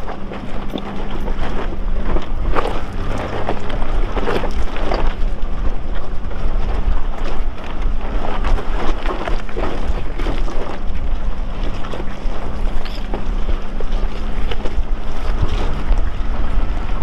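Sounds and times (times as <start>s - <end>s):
engine running at low speed: 0.0s - 17.0s
tyres crackling over loose rock: 0.0s - 17.0s.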